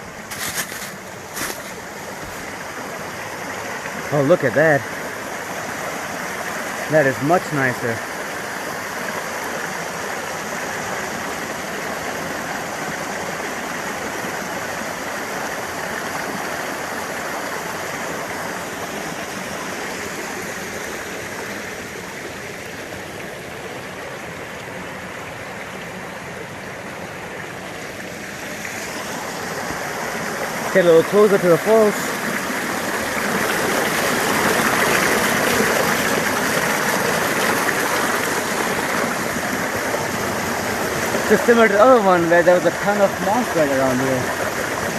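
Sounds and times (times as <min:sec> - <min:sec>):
waterfall splashing over rocks: 0:00.0 - 0:44.9.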